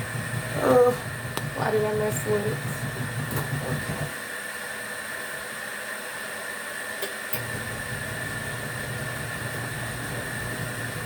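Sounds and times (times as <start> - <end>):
washing machine low hum: 0.0 - 5.5, 7.3 - 11.0.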